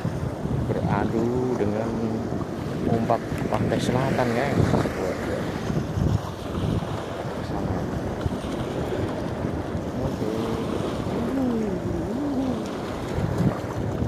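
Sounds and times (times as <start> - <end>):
ocean surf washing: 0.0 - 14.0
wind buffeting microphone: 0.0 - 14.0.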